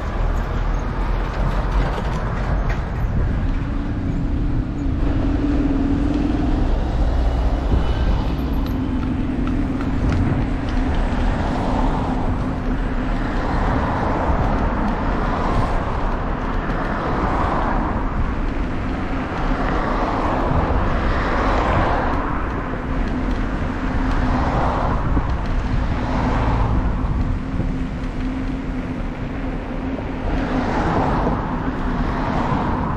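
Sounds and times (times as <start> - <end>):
bicycle road rumble: 0.0 - 32.9
wind rushing: 2.8 - 32.9.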